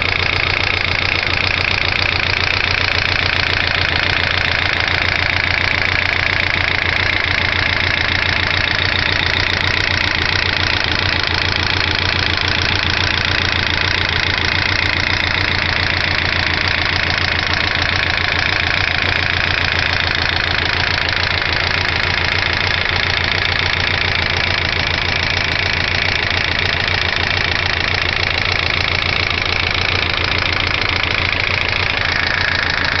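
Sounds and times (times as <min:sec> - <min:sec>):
car engine idling with knocking: 0:00.0 - 0:33.0.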